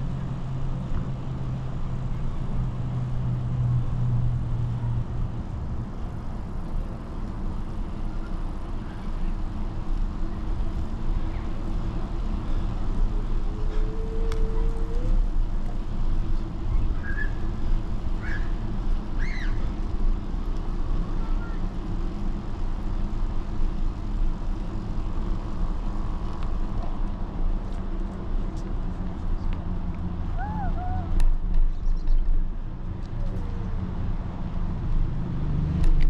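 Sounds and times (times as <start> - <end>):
bicycle tyres on asphalt: 0.0 - 36.0.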